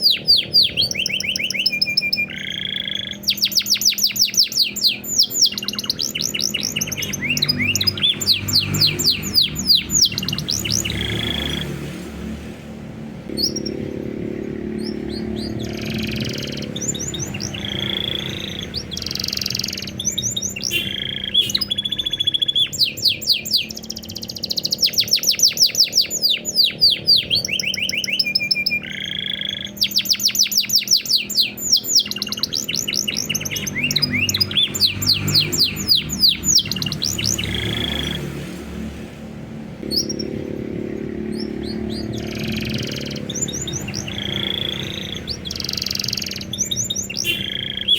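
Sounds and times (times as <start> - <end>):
canary singing with trills: 0.0 - 47.9.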